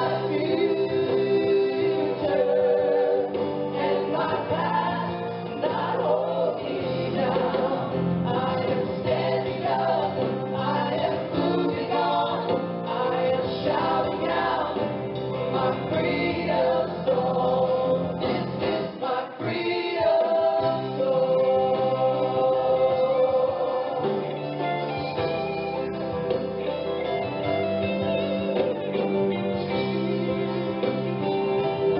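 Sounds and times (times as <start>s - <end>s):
gospel choir singing: 0.0s - 31.9s
instrumental accompaniment: 0.0s - 31.9s.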